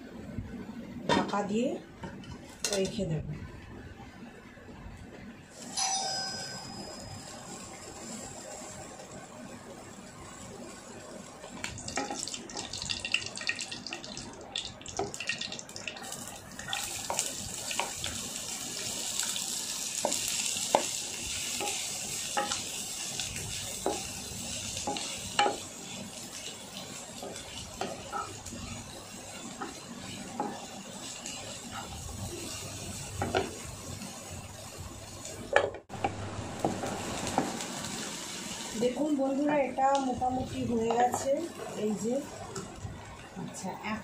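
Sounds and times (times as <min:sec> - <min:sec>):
food sizzling in hot oil: 0:05.5 - 0:44.0.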